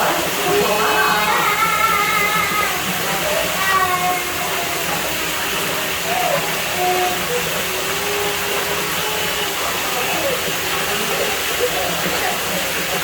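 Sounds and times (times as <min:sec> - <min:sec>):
faint distant voices: 0:00.0 - 0:13.0
rushing running water: 0:00.0 - 0:13.0.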